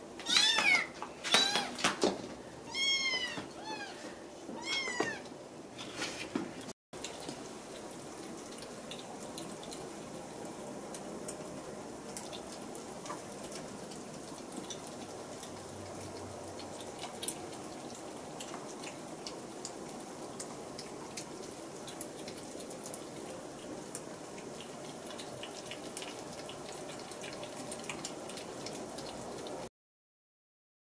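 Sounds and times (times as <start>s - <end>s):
kittens lapping and chewing food: 0.0s - 29.7s.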